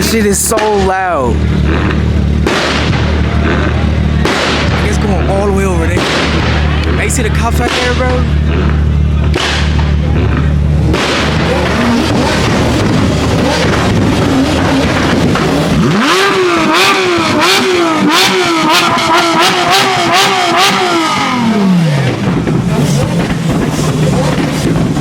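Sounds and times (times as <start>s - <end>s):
car engine revving: 0.0s - 25.0s
exhaust cracks: 0.0s - 25.0s.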